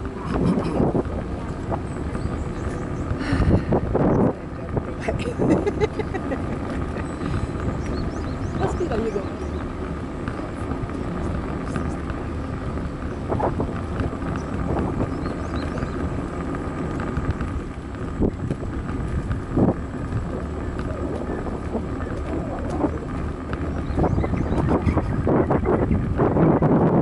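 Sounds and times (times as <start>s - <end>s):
rumble of riding on concrete: 0.0s - 27.0s
wind buffeting microphone: 0.0s - 27.0s.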